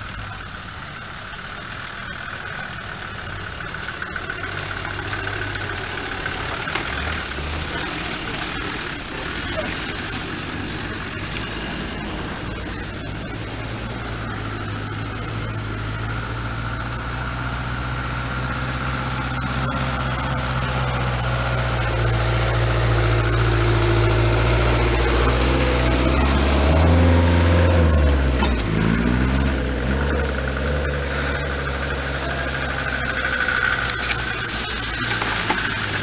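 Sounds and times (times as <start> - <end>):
off-road vehicle engines running: 0.0 - 36.0.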